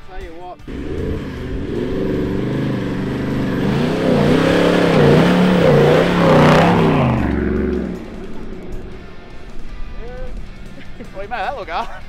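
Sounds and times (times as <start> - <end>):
truck engine revving: 0.7 - 11.3.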